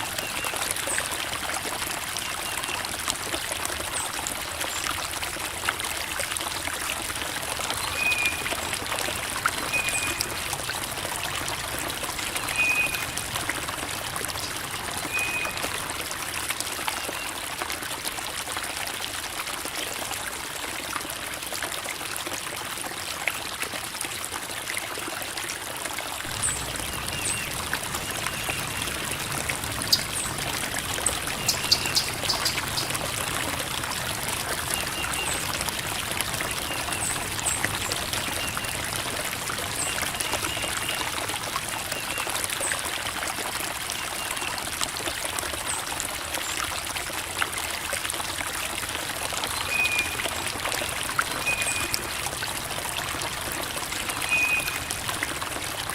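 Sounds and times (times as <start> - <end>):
creek babbling over rocks: 0.0 - 55.9.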